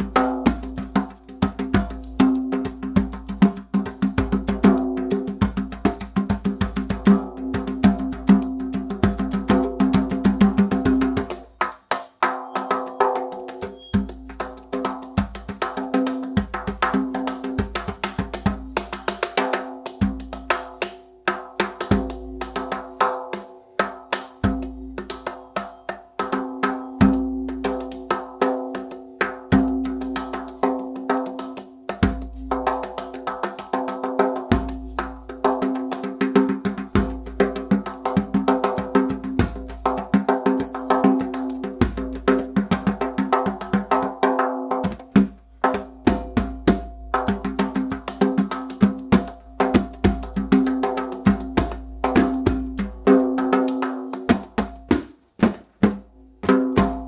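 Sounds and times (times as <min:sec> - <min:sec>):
hand drum played with bare hands: 0:00.0 - 0:57.0.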